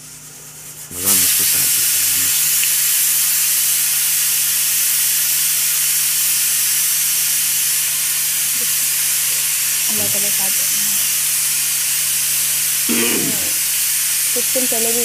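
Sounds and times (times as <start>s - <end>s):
loud steady hiss: 0.7s - 15.0s.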